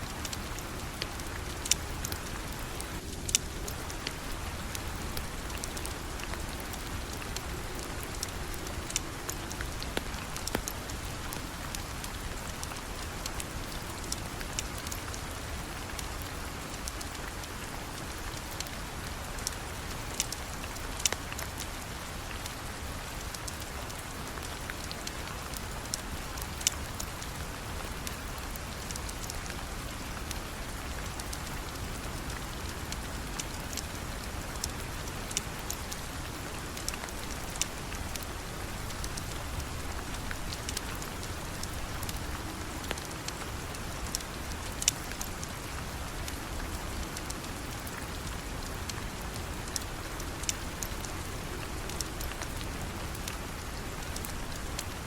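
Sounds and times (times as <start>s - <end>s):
steady rain: 0.0s - 55.0s
sharp ticks and pops: 0.2s - 55.0s.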